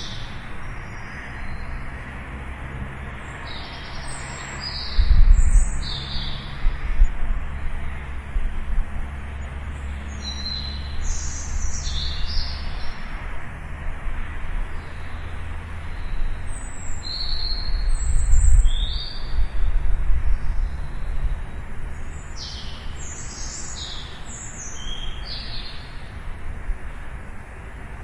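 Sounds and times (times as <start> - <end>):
low outdoor rumble: 0.0 - 28.0
songbirds chirping: 0.0 - 28.0.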